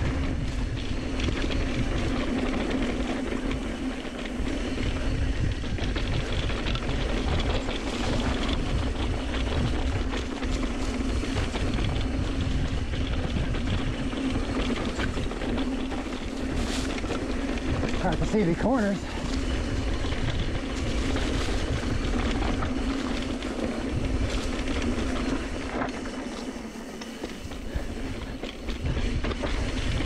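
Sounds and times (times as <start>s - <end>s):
bike rattling and knocking: 0.0s - 30.0s
bike tyres rolling on dirt: 0.0s - 30.0s
wind rushing over microphone: 0.0s - 30.0s.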